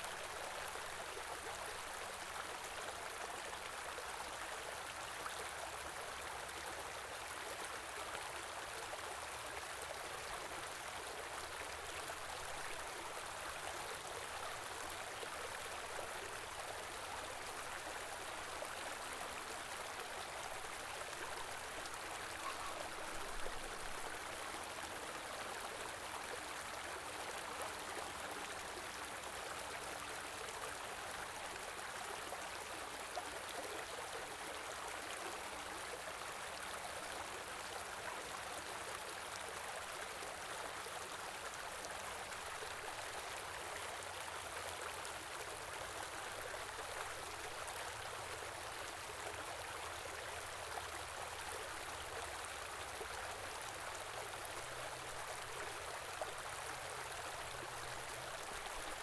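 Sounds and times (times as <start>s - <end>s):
stream flowing over rocks: 0.1s - 59.0s.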